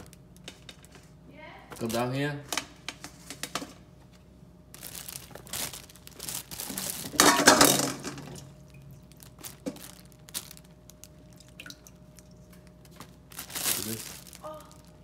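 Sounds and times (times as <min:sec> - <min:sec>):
plastic bag crinkling and rustling: 0:00.0 - 0:03.6, 0:04.6 - 0:15.0.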